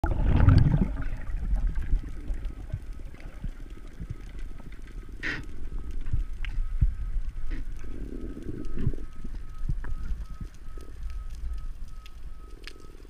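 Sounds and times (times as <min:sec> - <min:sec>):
low underwater rumble: 0:00.0 - 0:13.0
faint clicks: 0:01.8 - 0:13.0.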